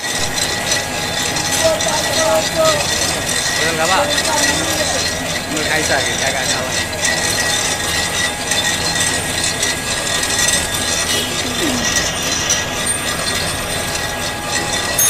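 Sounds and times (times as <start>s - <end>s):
machinery rattling and grinding: 0.0s - 15.0s.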